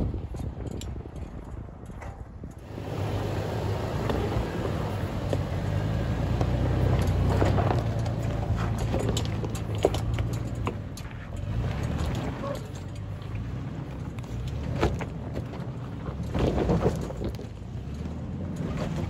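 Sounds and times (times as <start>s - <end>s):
stones clicking under tyres: 0.0s - 19.0s
truck engine at low revs: 0.0s - 19.0s.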